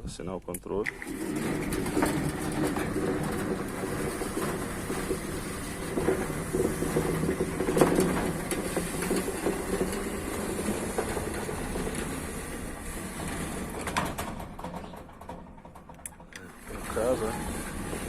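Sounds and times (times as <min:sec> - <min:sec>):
gate rattling clicks: 0:00.8 - 0:18.0
sliding gate motor running: 0:00.8 - 0:18.0.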